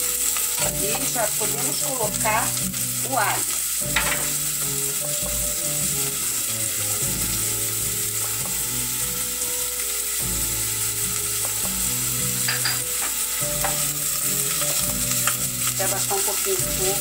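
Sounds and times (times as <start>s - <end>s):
onion and garlic sizzling in oil: 0.0s - 17.0s.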